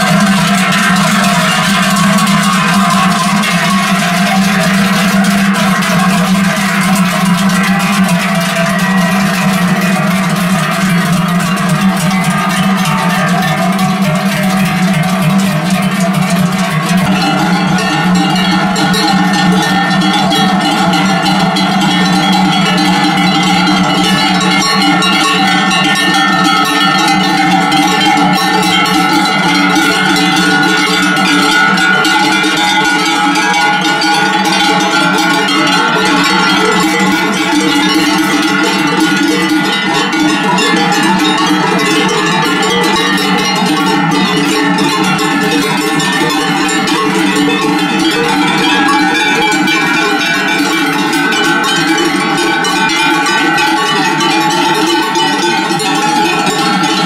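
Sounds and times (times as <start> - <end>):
cowbells clanging: 0.0 - 57.0.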